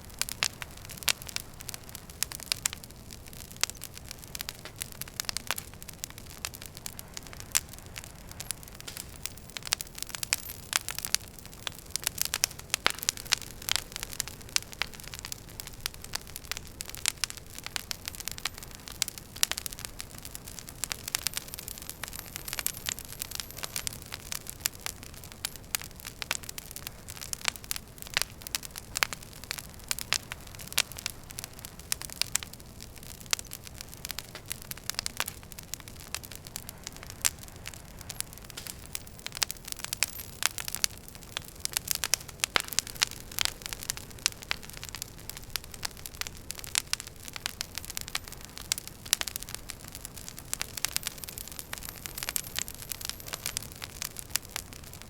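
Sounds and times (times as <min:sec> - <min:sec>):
wood fire crackling and popping: 0:00.0 - 0:55.0
flame rushing: 0:00.1 - 0:25.6, 0:28.2 - 0:55.0.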